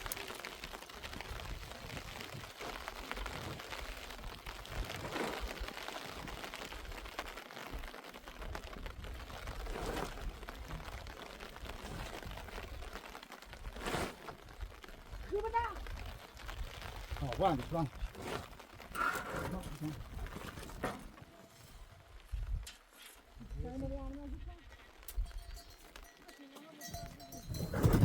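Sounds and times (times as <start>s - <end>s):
steady rain falling: 0.0s - 27.6s.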